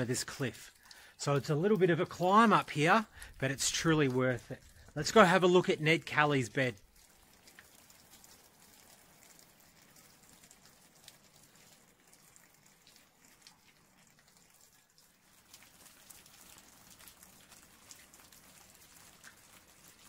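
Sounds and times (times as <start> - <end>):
faint water dripping: 0.0 - 20.0.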